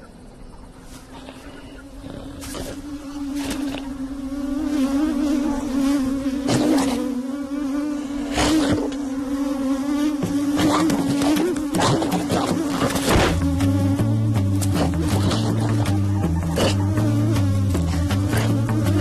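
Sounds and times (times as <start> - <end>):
cartoon insect swarm buzzing: 1.0 - 19.0.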